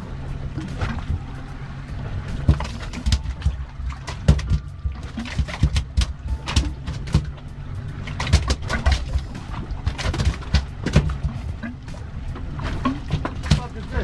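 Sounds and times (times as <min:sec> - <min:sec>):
low rumble: 0:00.0 - 0:14.0
sharp splashes and knocks: 0:00.0 - 0:14.0
water slapping against boat hull: 0:00.0 - 0:14.0.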